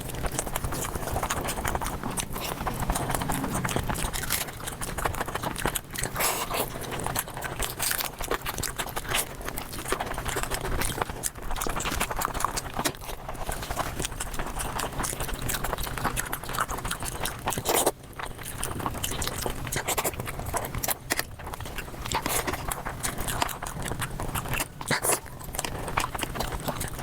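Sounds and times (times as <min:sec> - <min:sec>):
rapid chewing and crunching: 0:00.0 - 0:27.0.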